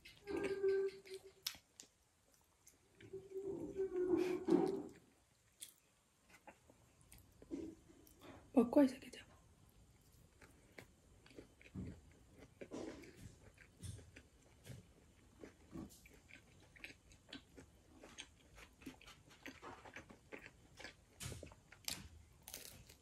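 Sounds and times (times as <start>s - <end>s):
person chewing pizza: 0.0s - 8.3s, 9.7s - 23.0s.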